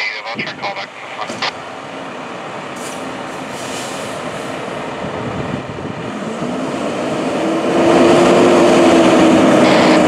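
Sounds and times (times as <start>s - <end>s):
diesel engine revving: 0.9s - 10.0s.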